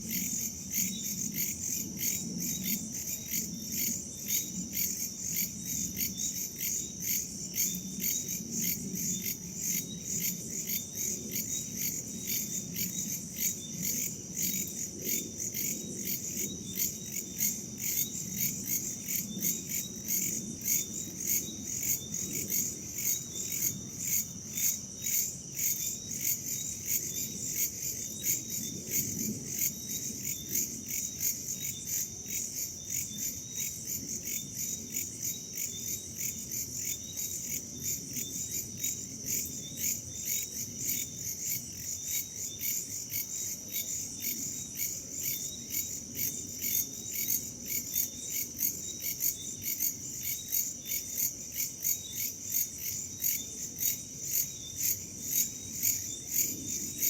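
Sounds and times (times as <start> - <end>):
crickets and insects chirping: 0.0 - 57.0.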